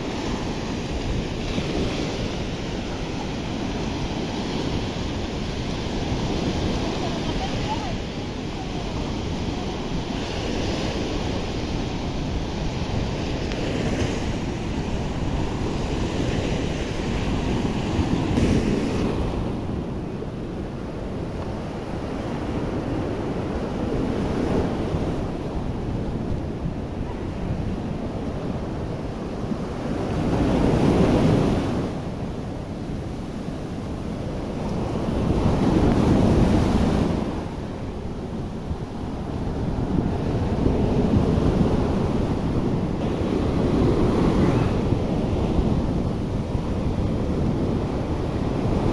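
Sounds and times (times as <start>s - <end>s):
sea surf breaking on beach: 0.0s - 48.9s
wind buffeting microphone: 0.0s - 48.9s.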